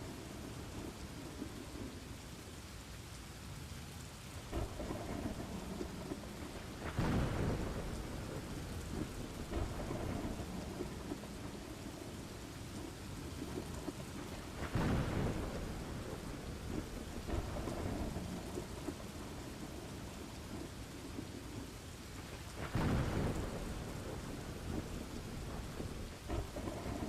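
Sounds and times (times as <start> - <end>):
steady rain: 0.0 - 27.0
thunder rumble: 4.4 - 27.0.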